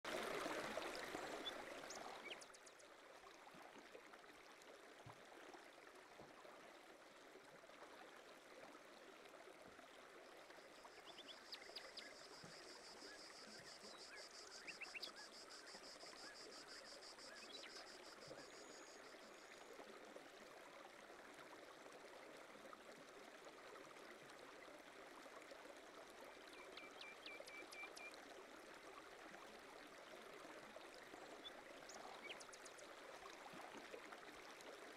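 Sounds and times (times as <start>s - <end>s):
water lapping at shoreline: 0.0s - 34.9s.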